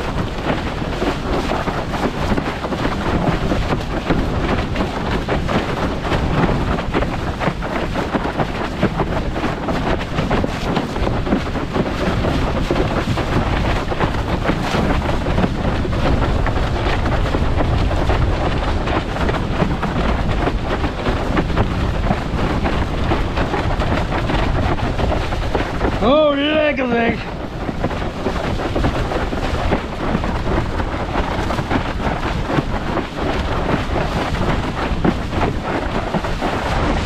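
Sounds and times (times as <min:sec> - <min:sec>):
board slapping over choppy water: 0:00.0 - 0:37.0
wind buffeting microphone: 0:00.0 - 0:37.0.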